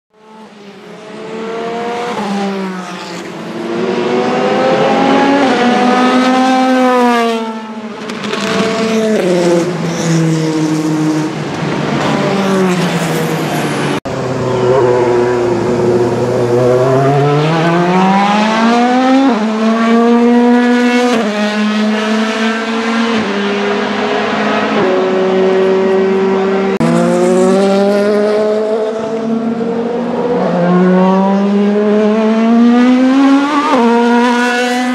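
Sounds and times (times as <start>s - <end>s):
racing engine accelerating: 1.0s - 34.9s.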